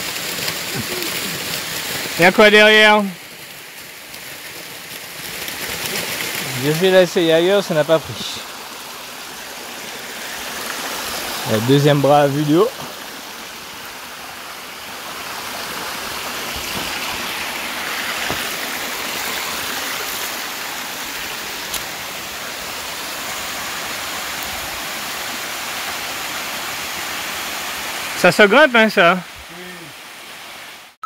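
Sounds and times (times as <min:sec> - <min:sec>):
waterfall rushing over rock: 0:00.0 - 0:31.0.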